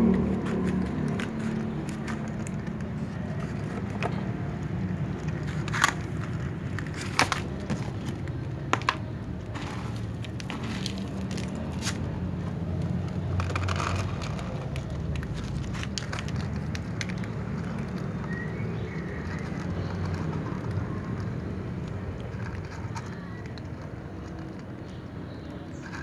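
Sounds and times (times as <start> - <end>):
cats crunching dry kibble: 0.0 - 26.0.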